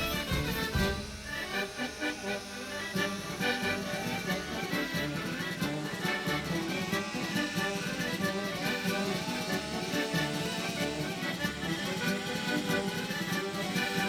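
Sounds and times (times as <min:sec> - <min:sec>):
instrumental folk music: 0:00.0 - 0:14.0.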